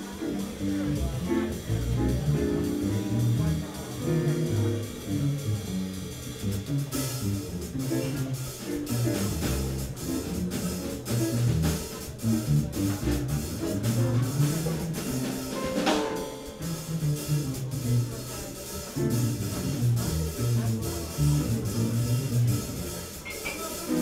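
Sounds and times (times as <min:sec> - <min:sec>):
drum kit cymbal strokes: 0:00.0 - 0:24.0
plucked double bass: 0:00.0 - 0:24.0.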